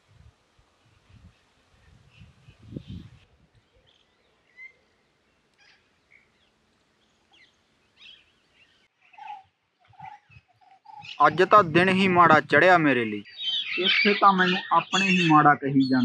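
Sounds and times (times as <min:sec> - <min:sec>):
lower steady bird calls: 0:00.7 - 0:16.0
faint birdsong chirps: 0:00.8 - 0:16.0.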